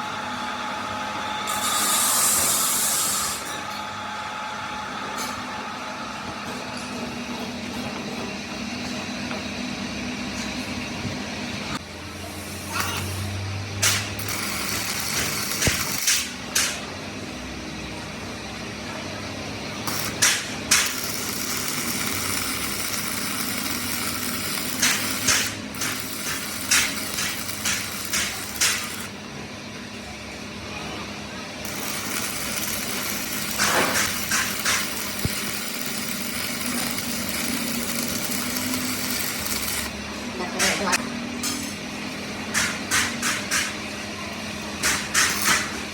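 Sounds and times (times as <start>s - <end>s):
workshop machinery humming: 0.0s - 45.9s.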